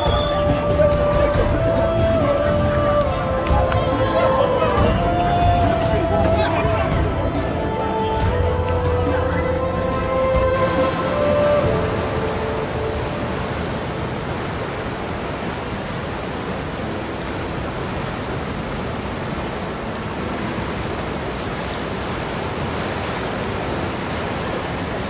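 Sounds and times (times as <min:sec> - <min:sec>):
turbulent creek water rushing: 0:00.0 - 0:25.0.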